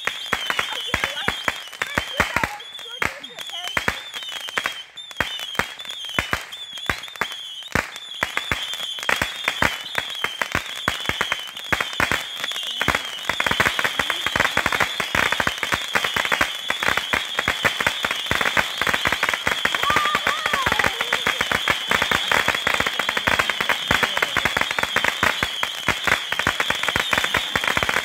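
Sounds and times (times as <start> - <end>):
firework pops and crackles: 0.0 - 28.0
high warbling firework whistle: 0.0 - 28.0.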